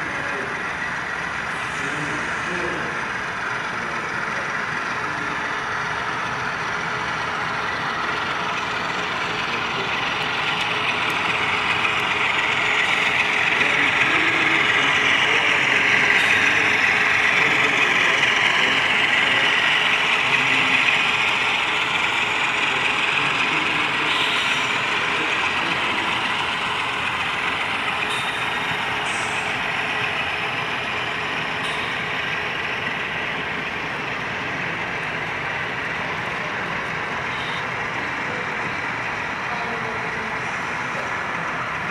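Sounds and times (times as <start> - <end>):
model train whirring rumble: 0.0 - 41.9.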